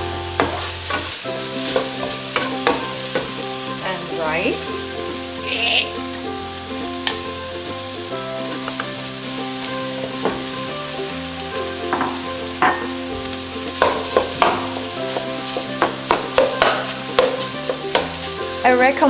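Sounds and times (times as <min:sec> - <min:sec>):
food sizzling in a pan: 0:00.0 - 0:19.0
spatula scraping a pan: 0:00.2 - 0:06.0, 0:08.4 - 0:18.6.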